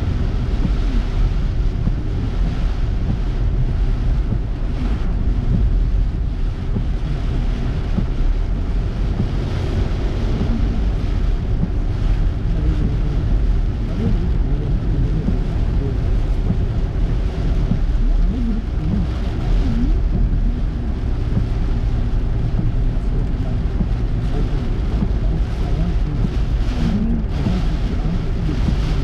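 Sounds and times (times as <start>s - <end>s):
car driving on wet road: 0.0s - 29.0s.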